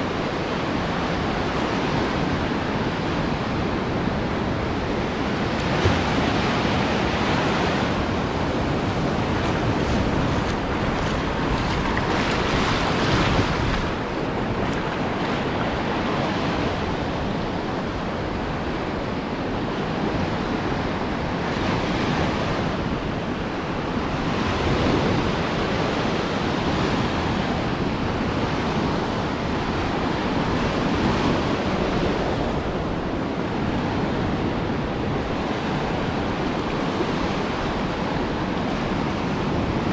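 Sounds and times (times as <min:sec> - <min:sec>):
ocean surf breaking: 0:00.0 - 0:39.9
wind: 0:00.0 - 0:39.9.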